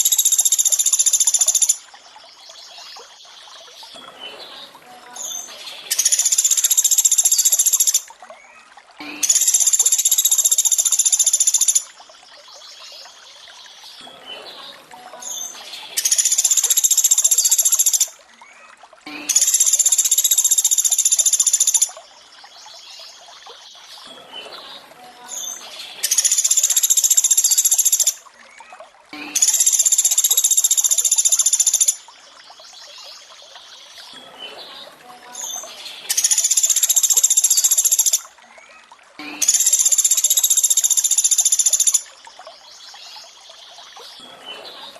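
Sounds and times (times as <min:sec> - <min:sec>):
soft water trickle: 0:00.0 - 0:44.9.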